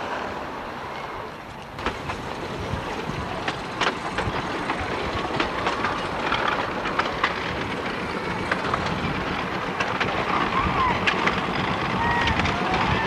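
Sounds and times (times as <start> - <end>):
train rumble: 0.0 - 13.0
wheels clicking over rail joints: 0.0 - 13.0.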